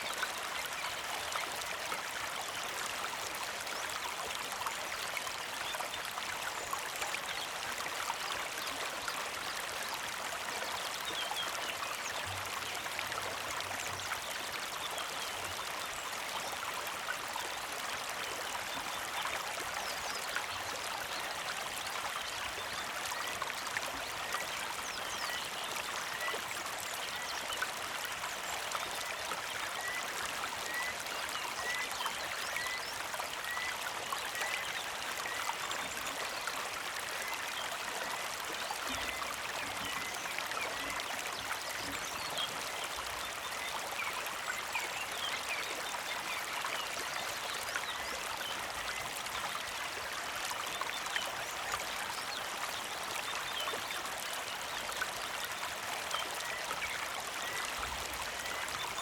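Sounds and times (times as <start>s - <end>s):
creek flowing and trickling: 0.0s - 59.0s.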